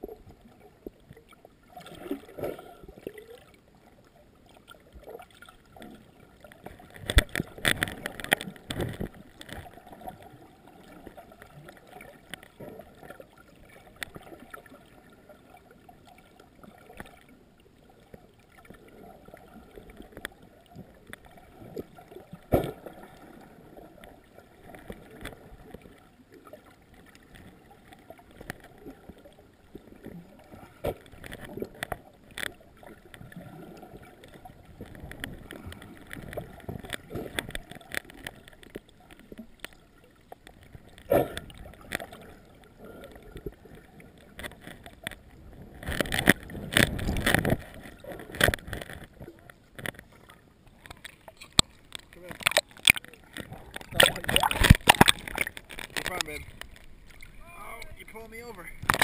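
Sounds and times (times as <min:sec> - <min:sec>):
muffled underwater sloshing and bubbling: 0:00.0 - 0:59.0
water splashing and bubbling: 0:00.0 - 0:59.0.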